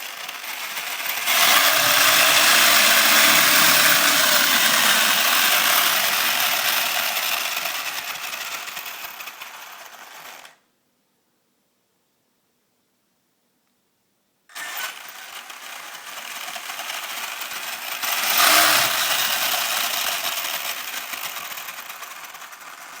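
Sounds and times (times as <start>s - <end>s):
rc truck motor grinding whir: 0.0s - 10.6s, 14.5s - 23.0s.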